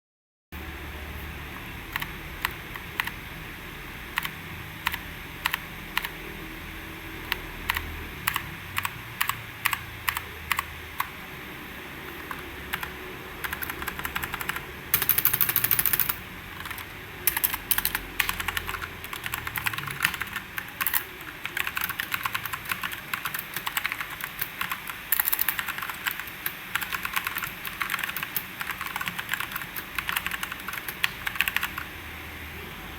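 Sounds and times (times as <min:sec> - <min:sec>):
mechanical keyboard typing: 0:01.8 - 0:03.2, 0:04.1 - 0:06.2, 0:07.2 - 0:11.2, 0:12.2 - 0:31.9.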